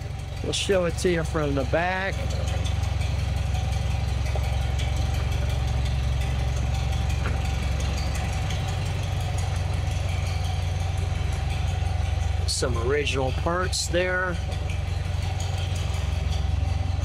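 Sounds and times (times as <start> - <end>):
engine idling: 0.0 - 17.0
thin steady whine: 0.0 - 17.0.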